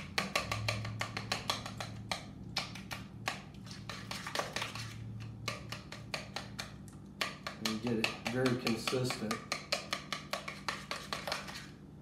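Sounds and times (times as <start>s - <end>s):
spoon scraping a mixing bowl: 0.0s - 11.8s.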